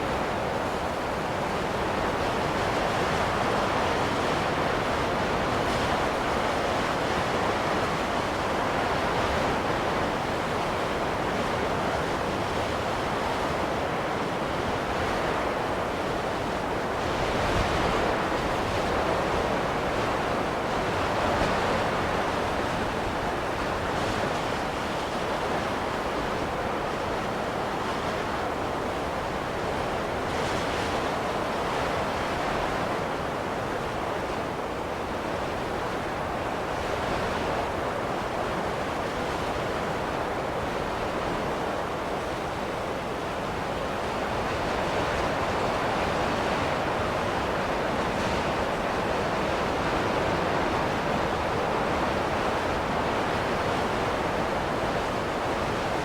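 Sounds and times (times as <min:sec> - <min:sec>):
snowstorm wind blowing: 0:00.0 - 0:56.0.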